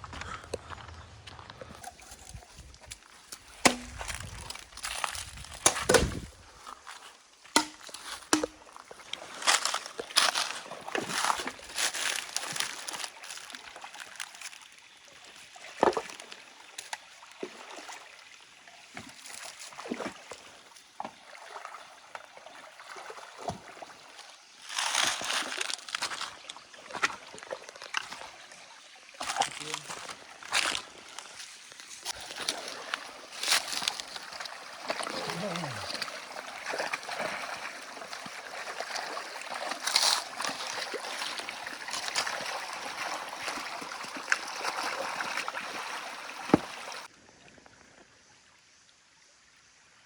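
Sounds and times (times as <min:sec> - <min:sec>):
stream water splashing: 0:01.8 - 0:48.0.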